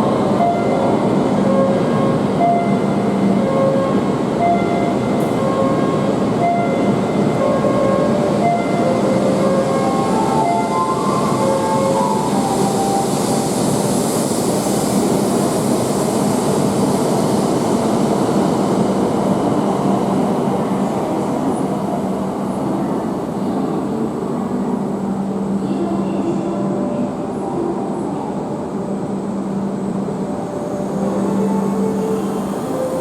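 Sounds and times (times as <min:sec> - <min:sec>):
train rushing past: 0:00.0 - 0:33.0.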